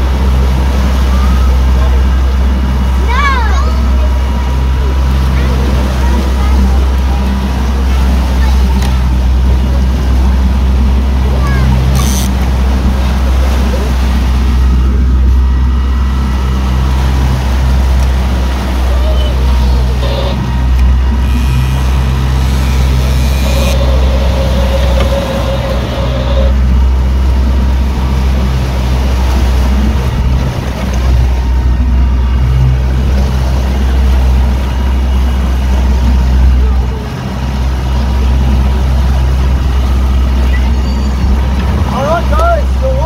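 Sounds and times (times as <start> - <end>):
boat engines rumbling: 0.0 - 43.0
rushing water: 0.0 - 43.0
wind: 0.0 - 43.0.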